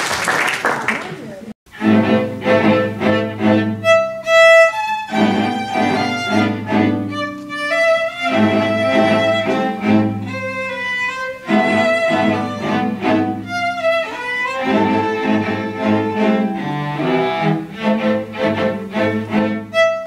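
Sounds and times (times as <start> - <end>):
cellos playing low chords: 1.7 - 20.0
violins bowing sustained notes: 1.7 - 20.0.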